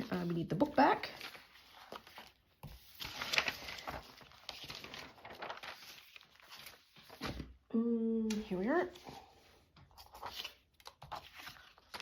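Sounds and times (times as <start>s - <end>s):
paper rustling: 0.0s - 7.6s, 8.4s - 12.0s.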